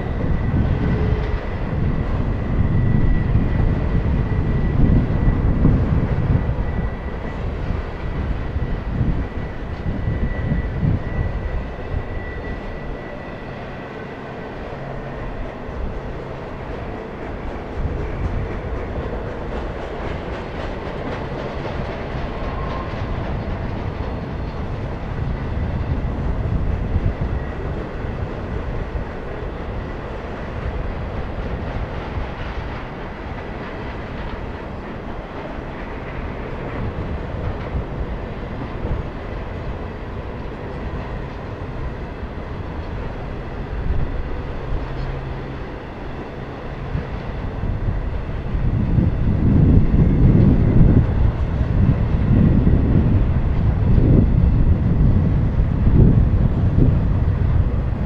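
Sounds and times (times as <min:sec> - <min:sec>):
freight train wheels on rail: 0:00.0 - 0:58.0.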